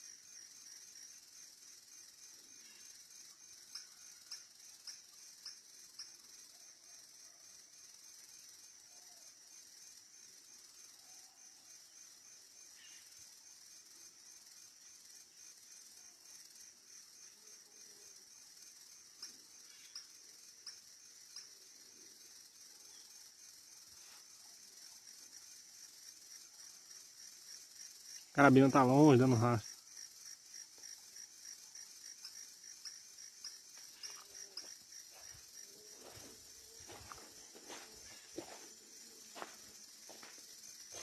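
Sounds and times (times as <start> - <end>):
insects chirring: 0.0 - 41.0.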